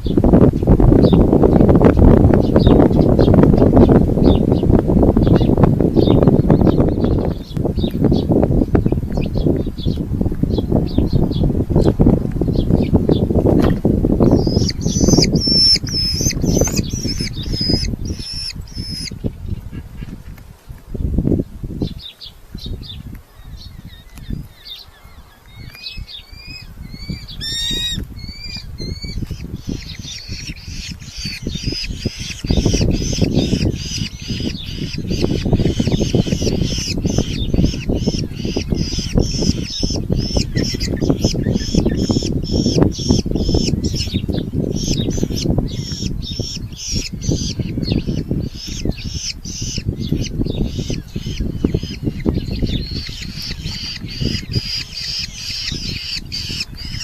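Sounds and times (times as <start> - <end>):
falcon chicks squawking: 5.2 - 20.4, 22.6 - 57.0.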